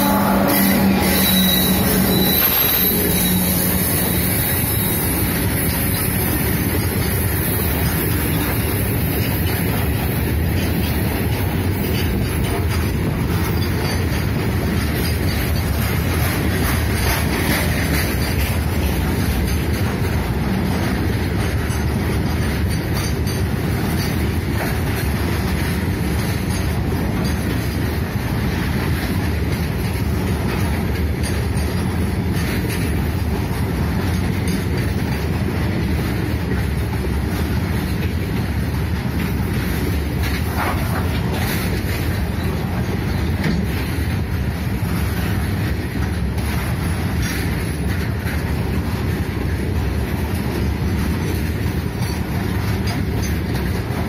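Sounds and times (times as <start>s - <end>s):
train wheels rumbling on rail: 0.0s - 54.0s
wheels clacking over rail joints: 0.0s - 54.0s.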